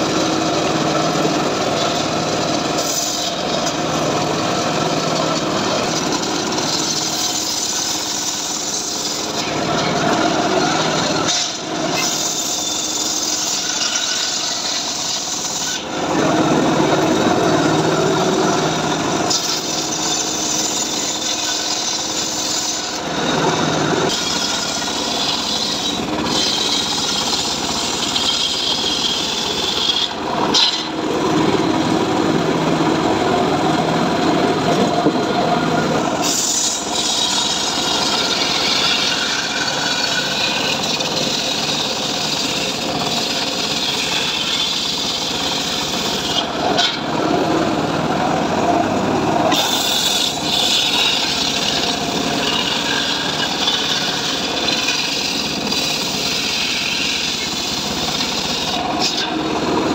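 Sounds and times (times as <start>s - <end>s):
circular saw cutting wood: 0.0s - 59.9s.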